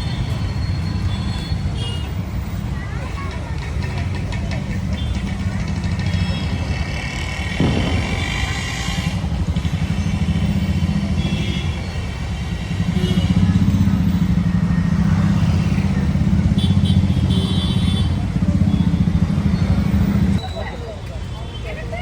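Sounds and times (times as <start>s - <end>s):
street traffic: 0.0s - 22.0s.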